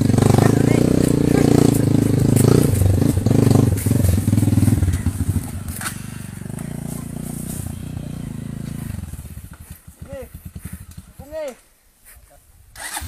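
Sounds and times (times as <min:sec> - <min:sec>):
motorcycle engine under load: 0:00.0 - 0:11.6, 0:12.8 - 0:13.0.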